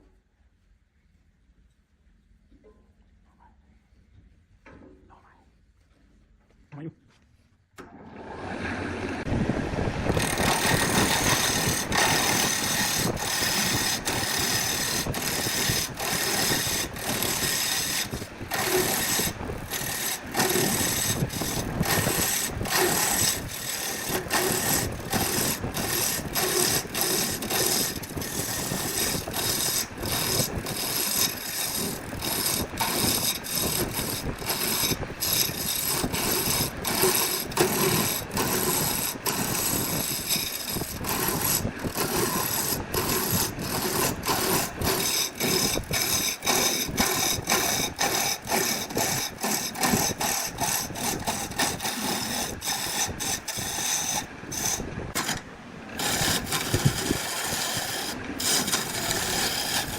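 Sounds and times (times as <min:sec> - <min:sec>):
woodworking machine whining: 0:09.9 - 0:59.9.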